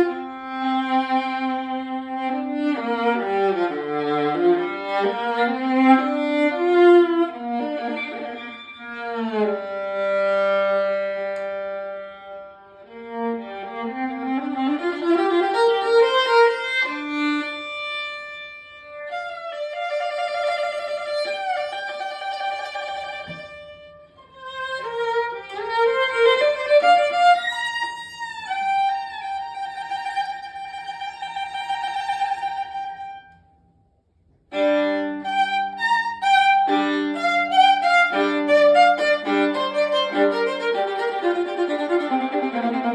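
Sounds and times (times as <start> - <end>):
violin playing a melody: 0.0 - 33.4, 34.5 - 42.9.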